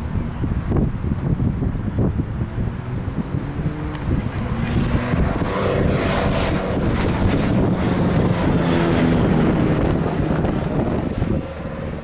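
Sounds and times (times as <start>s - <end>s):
light aircraft engine droning: 0.0s - 12.0s
wind buffeting microphone: 0.0s - 12.0s.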